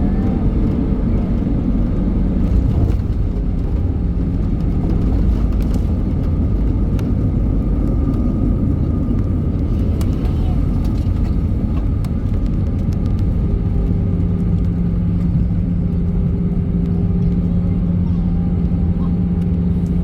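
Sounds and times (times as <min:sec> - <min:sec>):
airliner cabin engine roar: 0:00.0 - 0:20.0.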